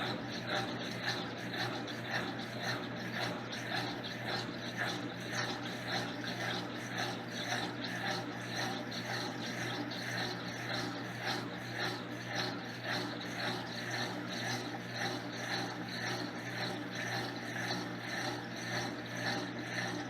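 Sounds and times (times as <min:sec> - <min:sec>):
rhythmic water swishing: 0:00.0 - 0:20.0
washing machine motor hum: 0:00.0 - 0:20.0.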